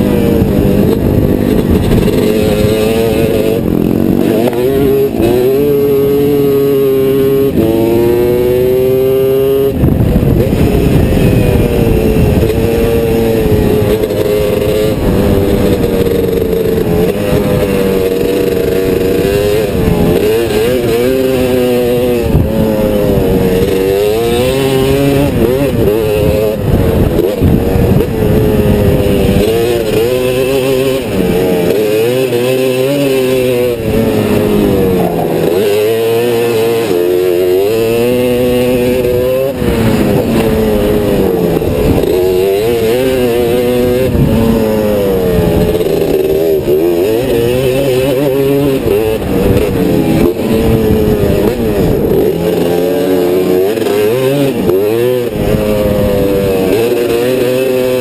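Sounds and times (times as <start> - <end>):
three-wheeler engine racing: 0.0 - 58.0.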